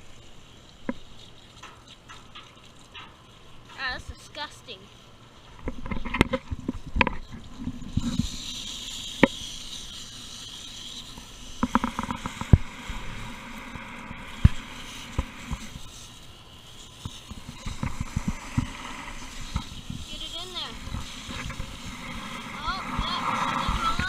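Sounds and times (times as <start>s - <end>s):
hose spraying water hiss: 0.0s - 24.0s.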